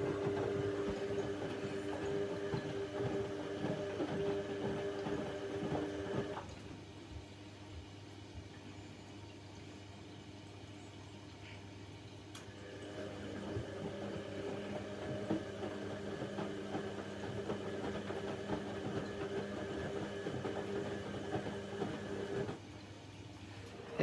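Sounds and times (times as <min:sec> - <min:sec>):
washing machine motor humming: 0:00.0 - 0:08.6, 0:12.3 - 0:24.0.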